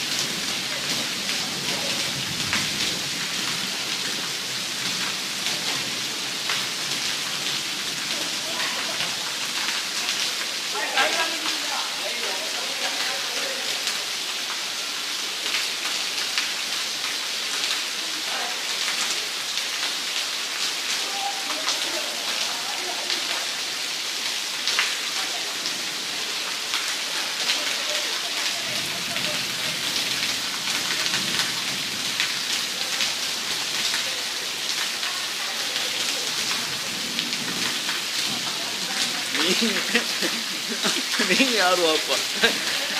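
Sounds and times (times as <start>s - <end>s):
heavy rain on brick paving: 0.0s - 42.9s.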